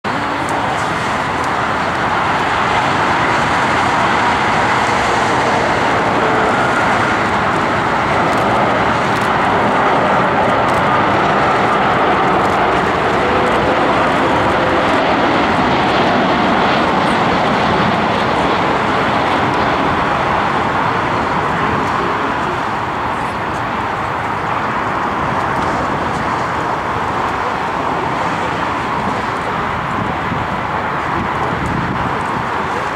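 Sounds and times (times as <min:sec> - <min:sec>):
jet engines roaring with whine: 0:00.0 - 0:32.9.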